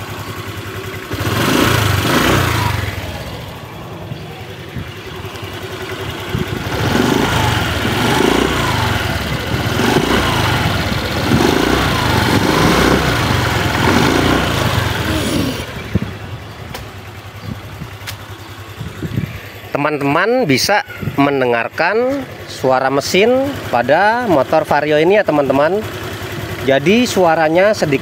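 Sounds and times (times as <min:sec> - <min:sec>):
scooter engine revving: 0:00.0 - 0:28.0
engine rattling tick: 0:00.1 - 0:15.1, 0:15.7 - 0:19.5, 0:20.5 - 0:28.0.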